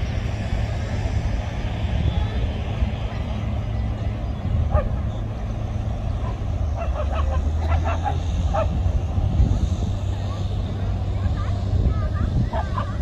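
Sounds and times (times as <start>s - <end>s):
low outdoor rumble: 0.0s - 13.0s
people's voices: 0.6s - 13.0s.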